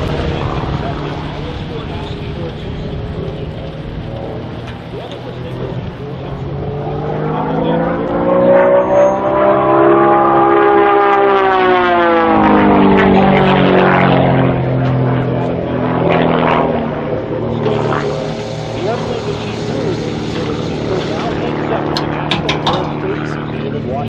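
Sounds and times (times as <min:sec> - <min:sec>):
buzzing biplane engine and propeller: 0:00.0 - 0:24.0.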